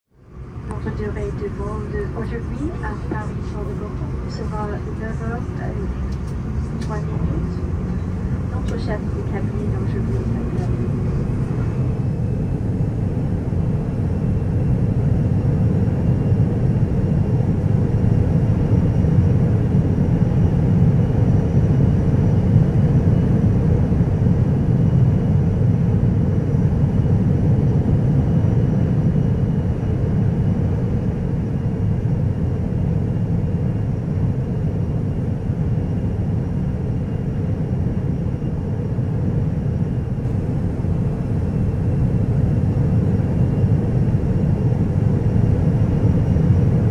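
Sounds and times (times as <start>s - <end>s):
jet engine cabin rumble: 0.2s - 46.9s.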